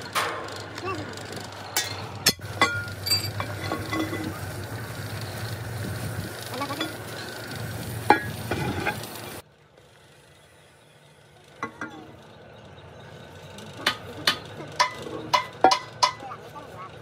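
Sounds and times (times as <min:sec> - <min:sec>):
workshop noise: 0:00.0 - 0:09.4, 0:11.2 - 0:17.0.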